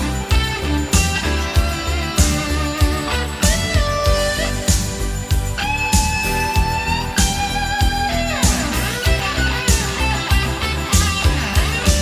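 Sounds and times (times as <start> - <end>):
electric guitar bending notes: 0.0 - 12.0
steady drum beat: 0.0 - 12.0.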